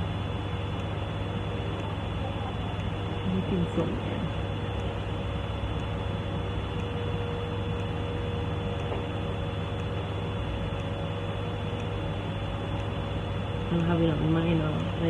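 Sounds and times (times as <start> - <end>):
background hum and hiss: 0.0 - 15.0
faint ticking: 0.0 - 15.0.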